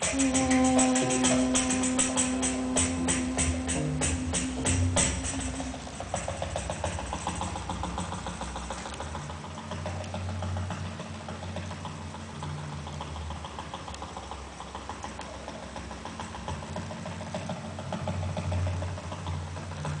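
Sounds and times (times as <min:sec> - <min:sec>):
fast even ticking: 0:00.0 - 0:20.0
machine humming: 0:00.0 - 0:20.0.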